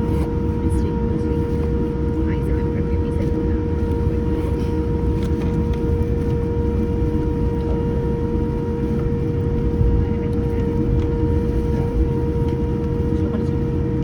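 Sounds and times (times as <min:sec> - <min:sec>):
airplane cabin low rumble: 0:00.0 - 0:14.0
mid-pitched hum: 0:00.0 - 0:14.0.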